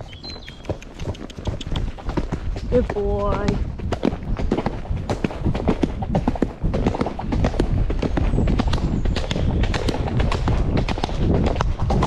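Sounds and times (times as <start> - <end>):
horse hooves on leafy track: 0.0 - 12.0.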